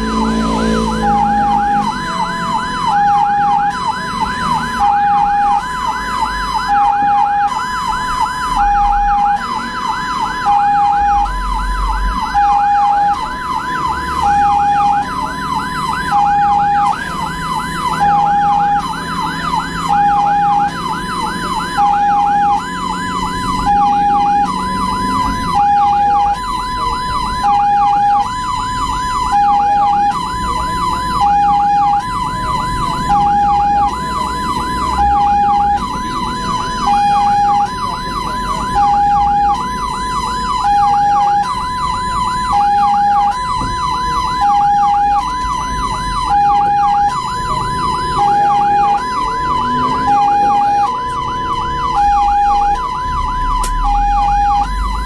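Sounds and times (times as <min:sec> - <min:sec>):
ambulance siren yelping: 0:00.0 - 0:55.0
engine and road rumble: 0:00.0 - 0:55.0
two-tone hi-lo siren: 0:00.0 - 0:55.0.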